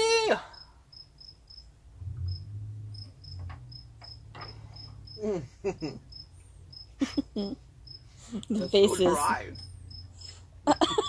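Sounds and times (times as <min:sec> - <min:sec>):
cricket chirping: 0:00.4 - 0:11.0.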